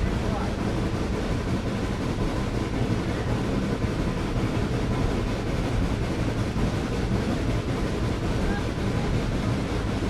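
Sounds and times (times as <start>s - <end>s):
train rumbling and rattling: 0.0s - 10.0s.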